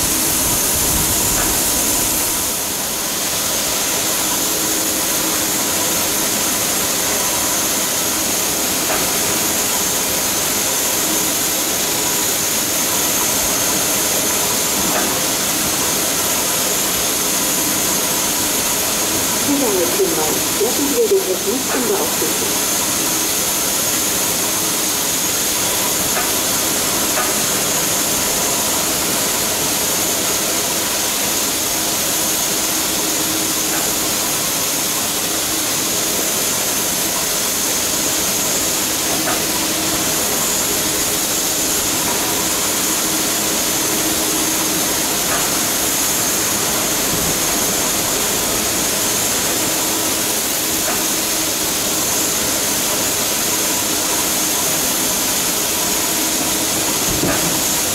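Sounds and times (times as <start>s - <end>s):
steam locomotive hissing: 0.0s - 57.9s.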